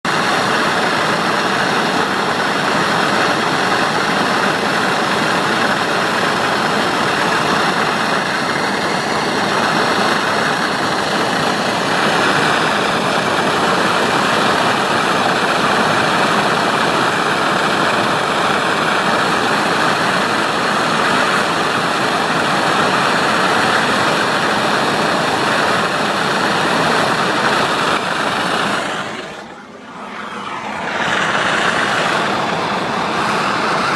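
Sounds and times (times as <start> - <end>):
gas torch flame rushing: 0.1 - 33.9.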